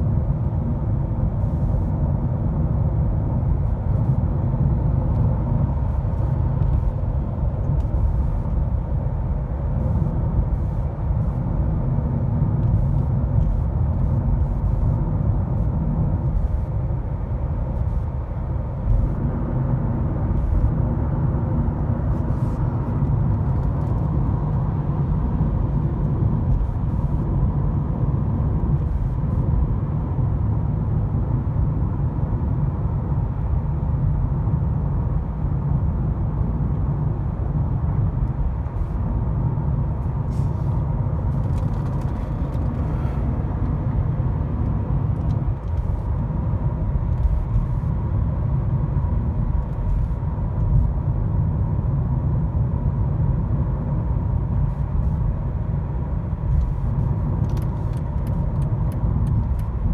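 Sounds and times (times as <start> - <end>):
diesel engine drone: 0.0 - 59.9
road and tyre noise: 0.0 - 59.9.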